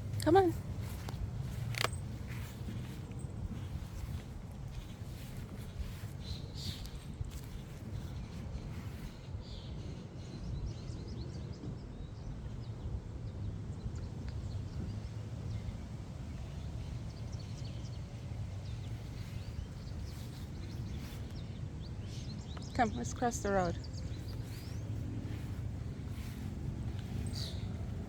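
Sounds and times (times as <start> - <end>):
road traffic rumble: 0.0 - 9.4, 13.5 - 28.0
small birds chirping: 0.0 - 12.2, 13.9 - 28.0.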